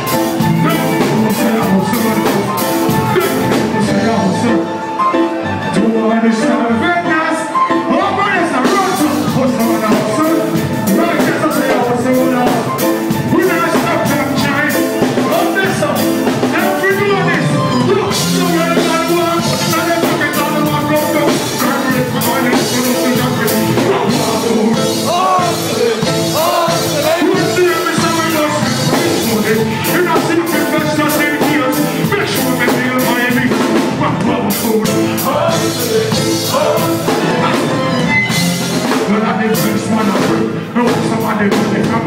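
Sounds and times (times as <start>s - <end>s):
live reggae band music: 0.0s - 42.0s
person singing: 0.0s - 42.0s.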